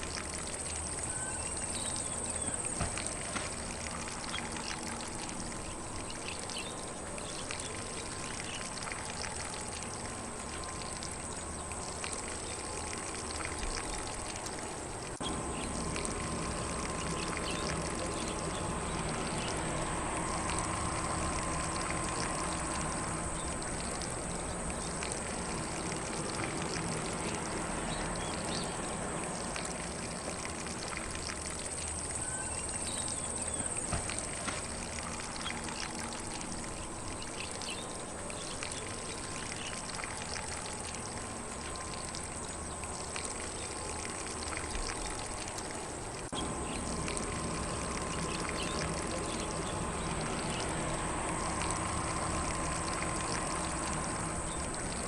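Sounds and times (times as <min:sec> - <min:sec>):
faint birdsong: 0:00.0 - 0:55.0
lawn sprinkler spraying water: 0:00.0 - 0:55.0.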